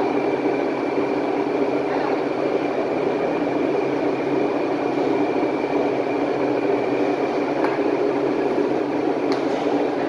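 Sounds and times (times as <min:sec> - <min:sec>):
frying machine rumble: 0:00.0 - 0:10.0.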